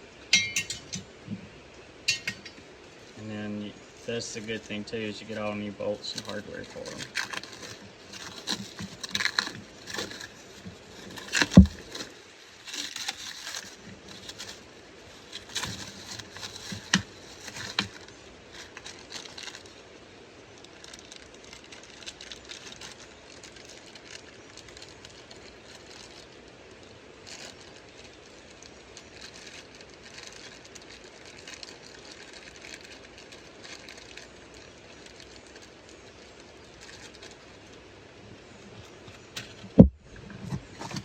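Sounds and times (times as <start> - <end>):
plastic crinkling: 4.0 - 41.0.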